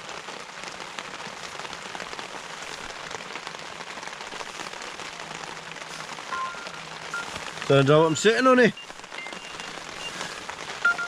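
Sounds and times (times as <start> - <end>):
heavy rain on a tent: 0.0 - 11.0.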